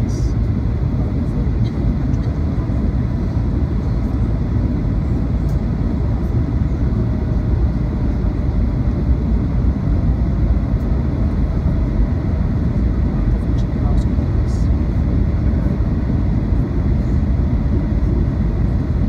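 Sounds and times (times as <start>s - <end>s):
faint hum: 0.0s - 19.0s
jet cabin engine rumble: 0.0s - 19.0s.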